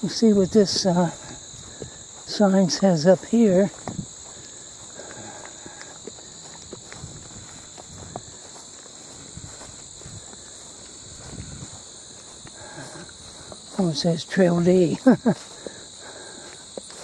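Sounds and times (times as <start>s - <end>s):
footsteps on woodland trail: 0.0s - 17.0s
high-pitched insect chorus: 0.0s - 17.0s.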